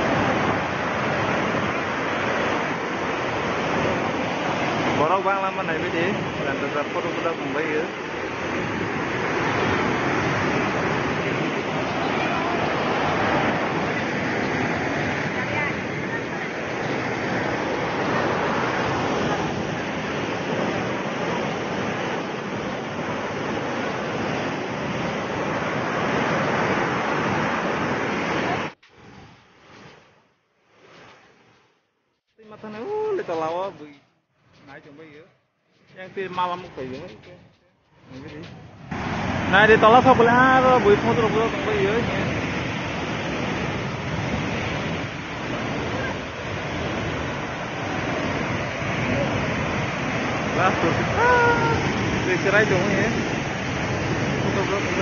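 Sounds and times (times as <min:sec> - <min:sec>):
waterfall rushing: 0:00.0 - 0:29.2, 0:38.1 - 0:55.0.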